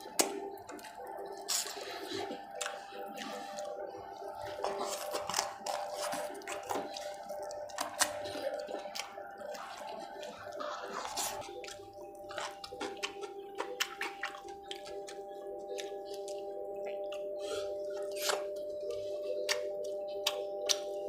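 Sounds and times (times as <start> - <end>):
steady background tones: 0.0 - 21.0
wet chewing and smacking: 0.0 - 21.0.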